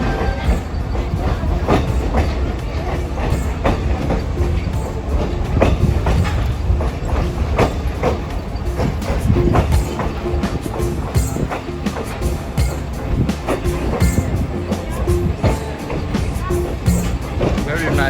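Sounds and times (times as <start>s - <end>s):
train rumbling: 0.0s - 18.0s
wheels clacking over rail joints: 0.0s - 18.0s.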